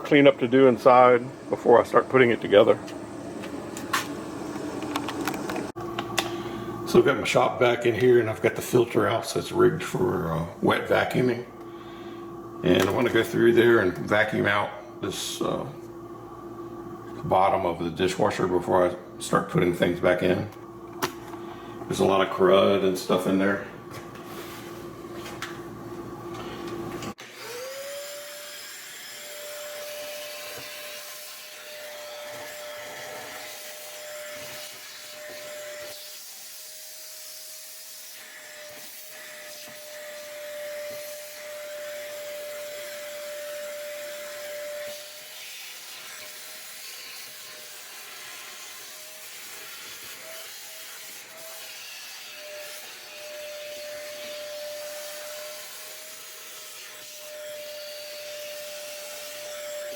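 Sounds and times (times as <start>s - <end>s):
shop vac whining: 0.0s - 50.3s, 51.0s - 59.9s.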